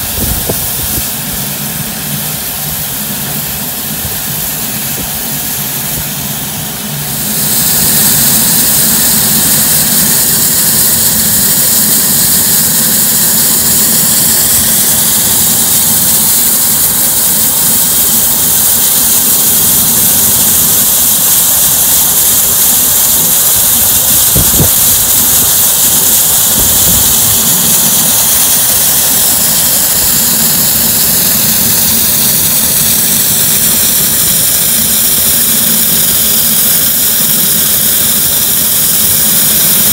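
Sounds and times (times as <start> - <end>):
steam locomotive venting steam: 0.0 - 39.9.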